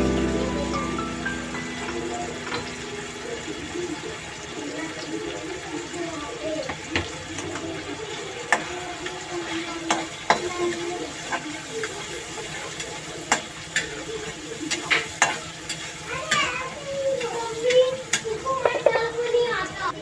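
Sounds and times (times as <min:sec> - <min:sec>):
frying sizzle: 0:00.0 - 0:20.0.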